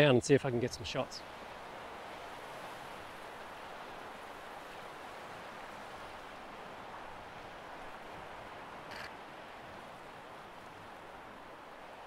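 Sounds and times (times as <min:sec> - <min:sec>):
shore background hiss: 0:00.0 - 0:12.0.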